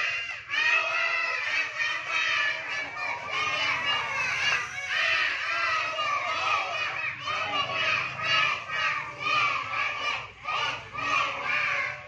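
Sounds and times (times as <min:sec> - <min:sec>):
young children's voices: 0:00.0 - 0:12.0.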